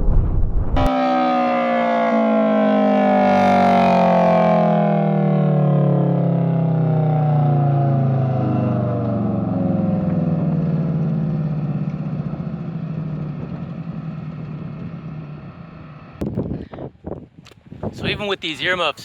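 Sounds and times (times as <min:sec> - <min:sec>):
air raid siren winding down: 0:00.8 - 0:16.2.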